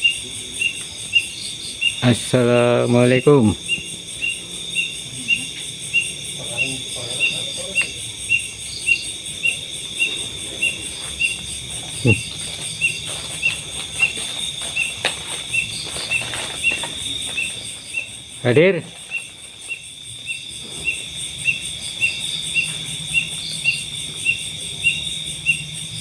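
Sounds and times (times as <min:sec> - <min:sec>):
crickets trilling: 0:00.0 - 0:26.0
high insect chirp: 0:00.0 - 0:26.0.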